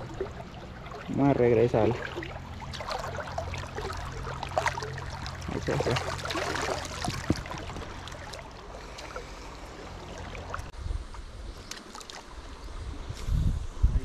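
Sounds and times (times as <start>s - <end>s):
water splashing: 0.0s - 10.7s, 11.6s - 12.6s
river water flowing: 0.0s - 13.0s.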